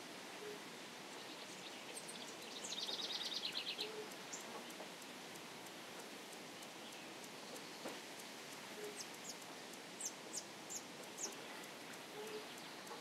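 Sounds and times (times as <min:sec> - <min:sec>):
soft background hiss: 0:00.0 - 0:13.0.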